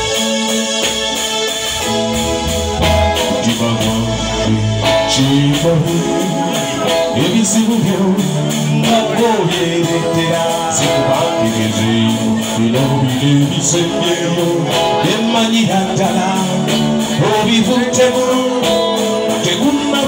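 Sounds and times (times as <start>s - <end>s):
drum kit beat: 0.0s - 20.0s
electric guitar: 0.0s - 20.0s
keyboard: 0.0s - 20.0s
person singing: 1.8s - 20.0s.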